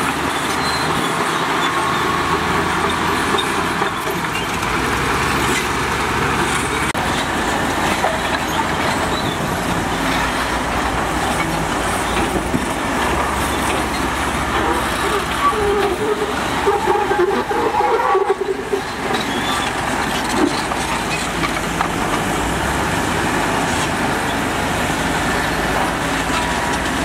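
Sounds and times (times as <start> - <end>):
heavy machinery diesel engines: 0.0 - 27.0.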